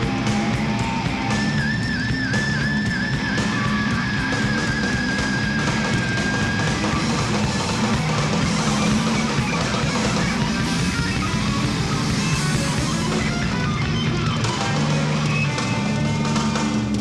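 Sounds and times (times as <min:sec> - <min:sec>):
distorted electric guitars: 0:00.0 - 0:17.0
drum kit: 0:00.0 - 0:17.0.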